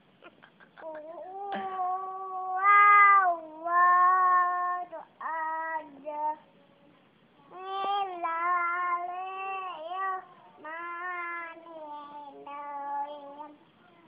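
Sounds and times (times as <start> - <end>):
toddler chanting recitation: 0.8 - 6.5, 7.4 - 14.0.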